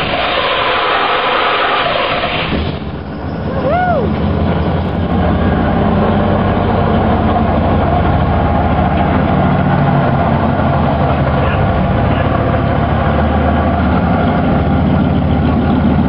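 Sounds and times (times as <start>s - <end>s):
race car engine revving and idling: 0.0s - 16.0s.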